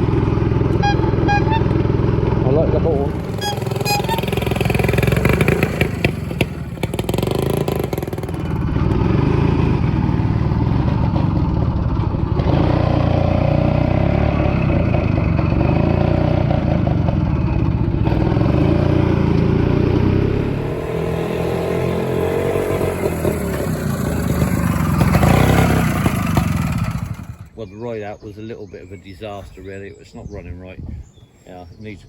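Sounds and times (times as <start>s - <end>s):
two-stroke engine running: 0.0s - 27.5s.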